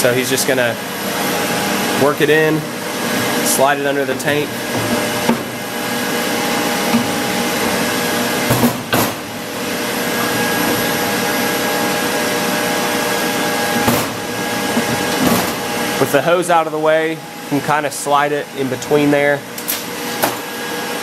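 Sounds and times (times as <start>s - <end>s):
machinery drone with whining tones: 0.0s - 21.0s.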